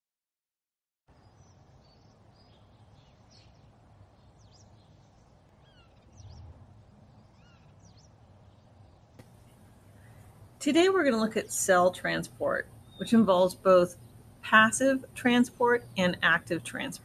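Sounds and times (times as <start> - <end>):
birds chirping: 1.1 - 17.0.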